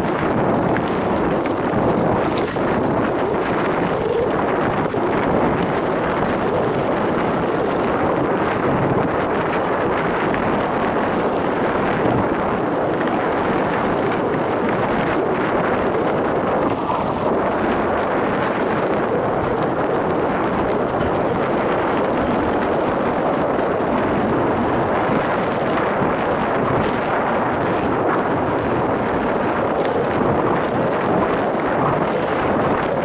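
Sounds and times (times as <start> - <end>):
bike tyres rumbling and rattling: 0.0 - 33.0
wind on microphone: 0.0 - 33.0.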